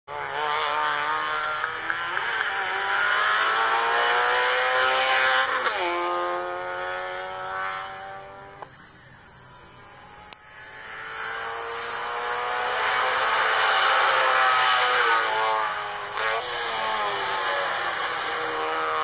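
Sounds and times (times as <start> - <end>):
rally car engine at full throttle: 0.1 - 19.0.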